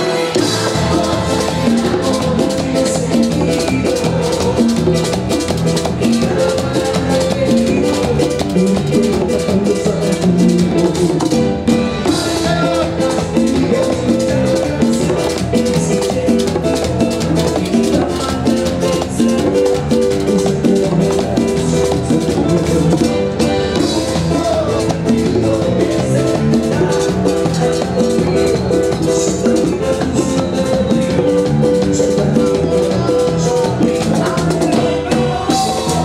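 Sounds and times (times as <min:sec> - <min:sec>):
drum kit and percussion beat: 0:00.0 - 0:36.0
live band playing latin music: 0:00.0 - 0:36.0.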